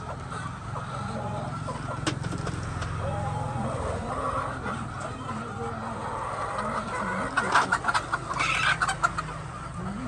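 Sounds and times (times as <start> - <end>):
hens clucking: 0.0 - 10.0.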